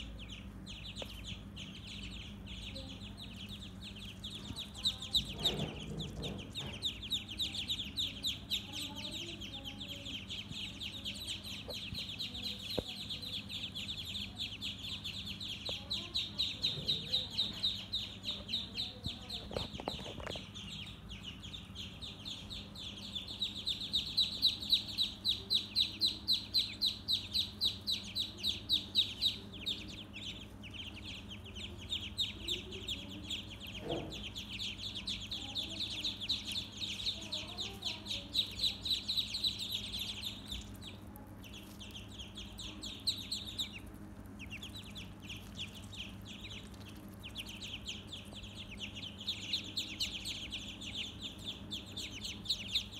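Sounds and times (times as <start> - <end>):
ducklings peeping: 0.0 - 52.9.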